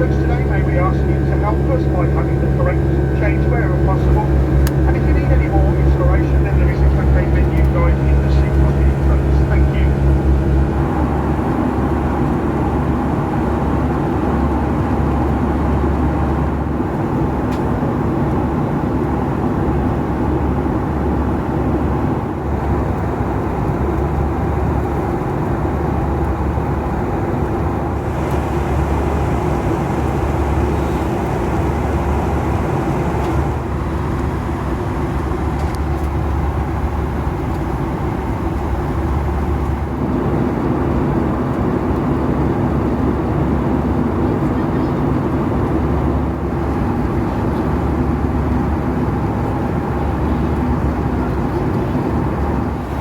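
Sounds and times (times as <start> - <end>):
airliner cabin engine drone: 0.0 - 53.0.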